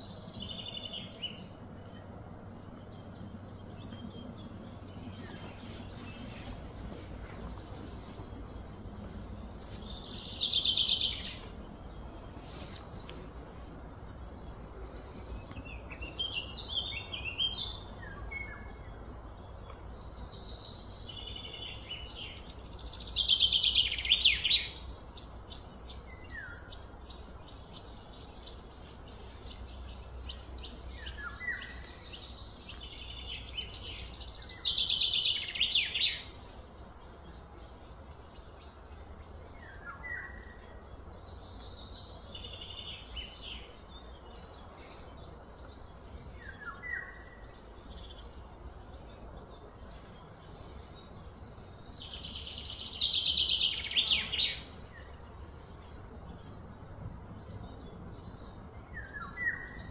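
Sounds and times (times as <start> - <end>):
bird chirps: 0.0 - 59.9
birds singing trilled songs: 0.0 - 59.9
low background hum: 0.0 - 59.9.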